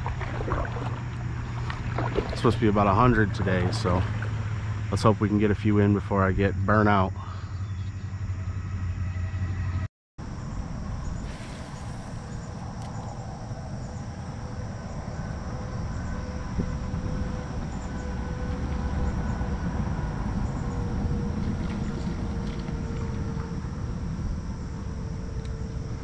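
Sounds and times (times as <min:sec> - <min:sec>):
water along a hull: 0:00.0 - 0:09.7, 0:10.4 - 0:26.0
pedal drive rumble: 0:00.0 - 0:26.0.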